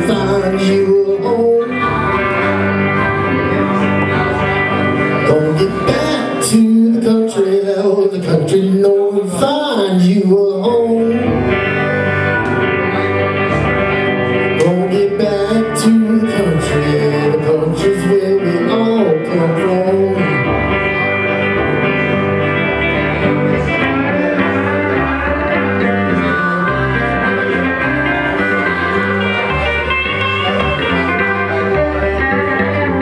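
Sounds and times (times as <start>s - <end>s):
electric guitars playing: 0.0s - 33.0s
man singing: 0.0s - 33.0s.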